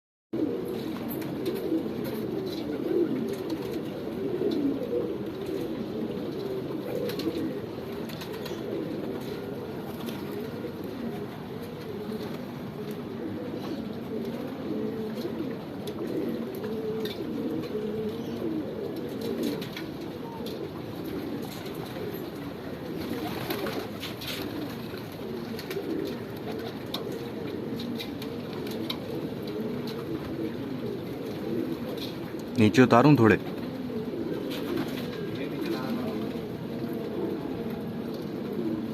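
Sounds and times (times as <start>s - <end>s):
pigeons cooing: 0.4s - 38.9s
faint clicks and flutters: 5.3s - 17.8s, 18.9s - 32.6s, 33.5s - 38.9s.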